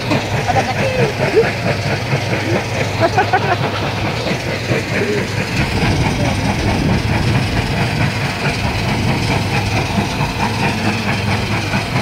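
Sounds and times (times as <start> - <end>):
stone crusher rumbling and rattling: 0.0 - 12.0.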